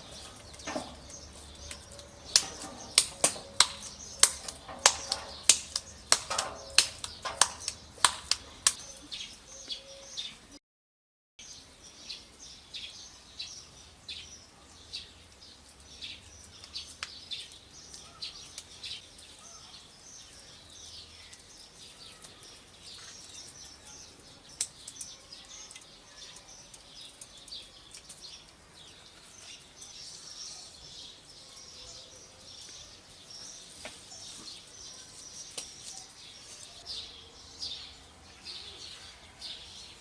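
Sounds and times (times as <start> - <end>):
faint outdoor background noise: 0.0 - 10.6, 11.4 - 40.0
small birds chirping: 0.0 - 10.6, 11.4 - 40.0.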